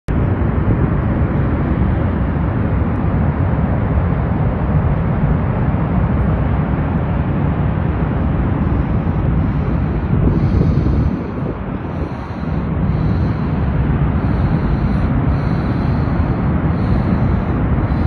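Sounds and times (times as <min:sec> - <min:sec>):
volcano crater low rumble: 0:00.1 - 0:18.0
wind buffeting microphone: 0:00.1 - 0:18.0.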